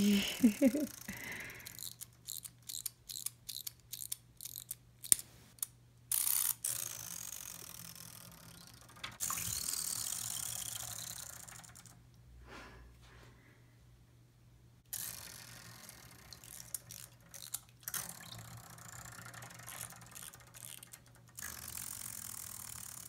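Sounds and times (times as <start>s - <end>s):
winding key ratchet clicks: 0.5s - 12.0s, 15.0s - 23.0s.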